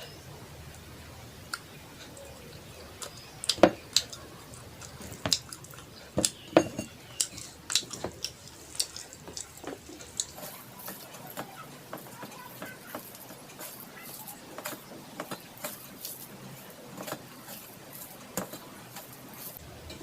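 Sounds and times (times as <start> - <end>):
wet eating sounds: 1.4 - 20.0.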